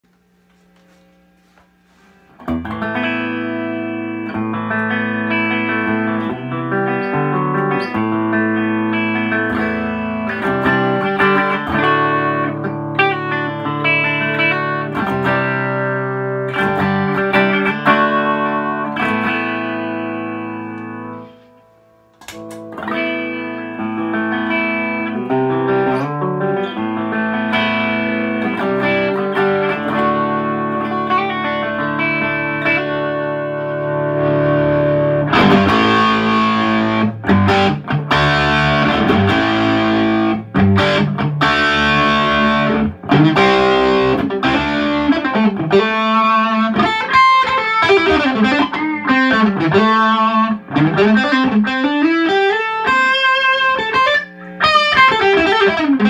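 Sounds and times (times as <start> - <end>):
electric guitar through tube amp: 0.1 - 56.0.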